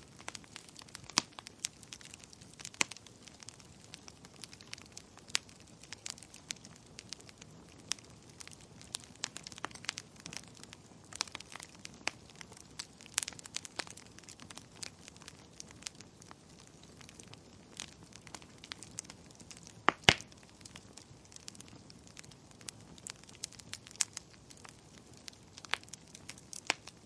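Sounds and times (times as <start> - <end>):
loud fire pops: 0.0 - 27.0
wood fire crackling: 0.0 - 27.0.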